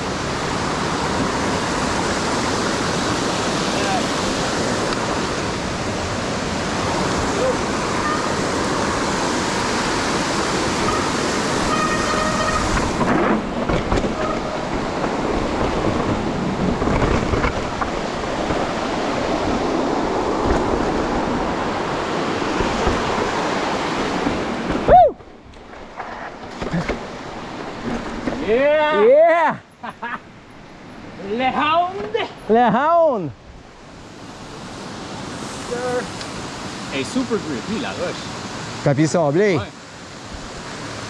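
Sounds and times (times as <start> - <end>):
waterfall rushing: 0.0 - 25.5, 30.7 - 41.0.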